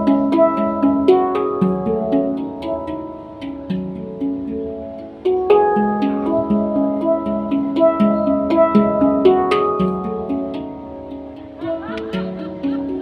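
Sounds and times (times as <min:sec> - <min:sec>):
handpan notes ringing: 0:00.0 - 0:13.0.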